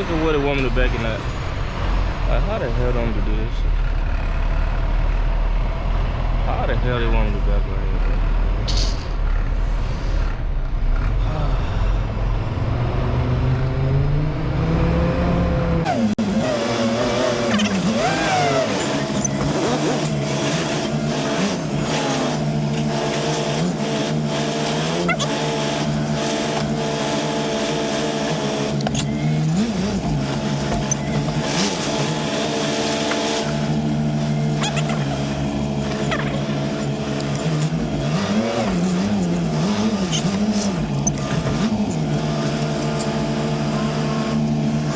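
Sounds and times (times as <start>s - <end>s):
diesel truck engine revving: 0.0s - 44.9s.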